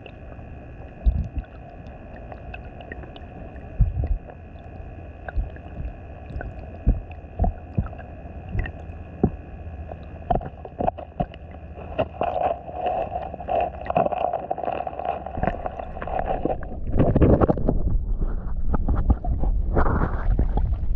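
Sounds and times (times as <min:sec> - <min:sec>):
underwater flowing water: 0:00.0 - 0:20.9
clicks and knocks underwater: 0:00.8 - 0:20.9.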